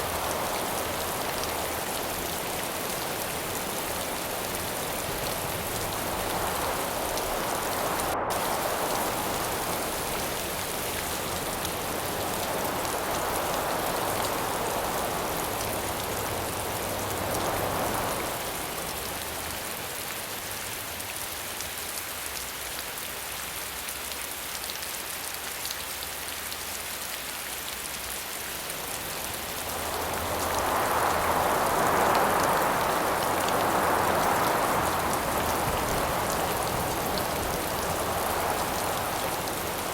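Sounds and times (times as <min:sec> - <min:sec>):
wind gusts: 0:00.0 - 0:21.0, 0:28.3 - 0:39.9
steady rain falling: 0:00.0 - 0:39.9.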